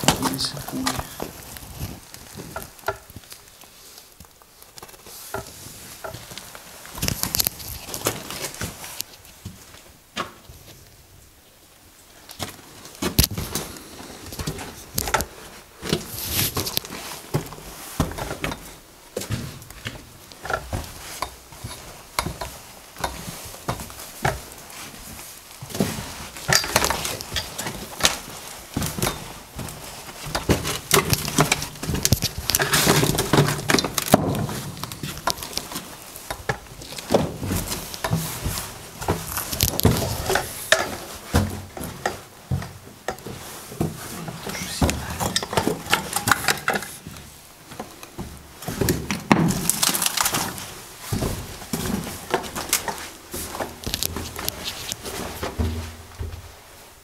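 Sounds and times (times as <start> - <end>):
footsteps crunching on rubble: 0.0 - 3.5, 12.4 - 56.6.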